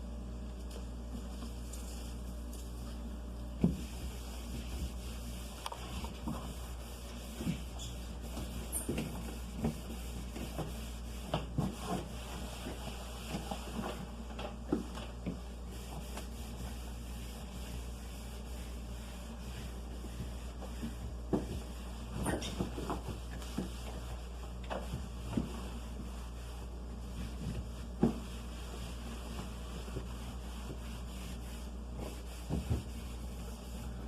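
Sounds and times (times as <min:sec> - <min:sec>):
steady low hum: 0:00.0 - 0:34.0
surfaces wiped: 0:00.8 - 0:14.1, 0:14.7 - 0:34.0.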